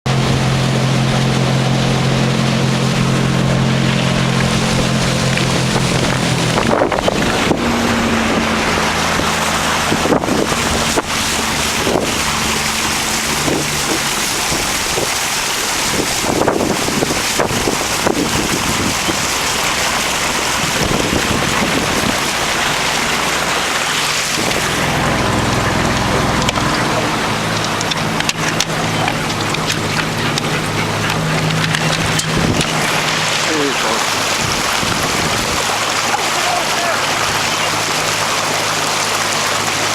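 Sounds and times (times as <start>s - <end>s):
motorboat engine running: 0.0s - 39.9s
water rushing and splashing: 0.0s - 39.9s
wind buffeting microphone: 0.1s - 36.1s.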